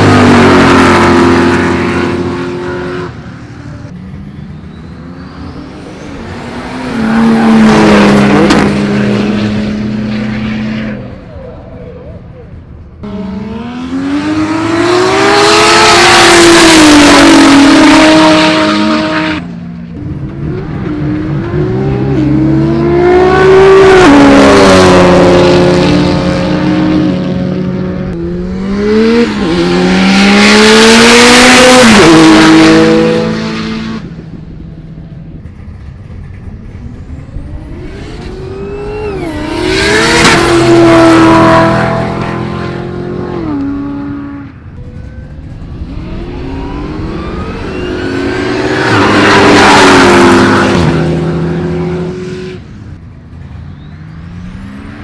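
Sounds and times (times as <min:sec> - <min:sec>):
race cars accelerating hard: 0:00.0 - 0:55.0.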